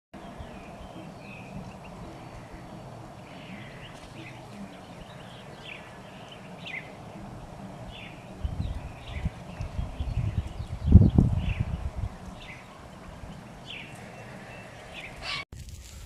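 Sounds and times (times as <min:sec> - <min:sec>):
bird chirps: 0:00.2 - 0:15.4
low outdoor rumble: 0:00.2 - 0:16.0.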